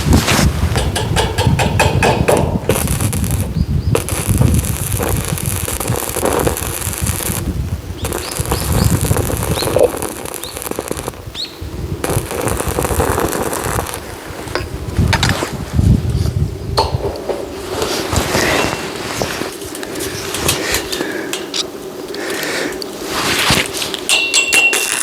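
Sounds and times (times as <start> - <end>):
arc welding crackling: 0.0 - 25.0.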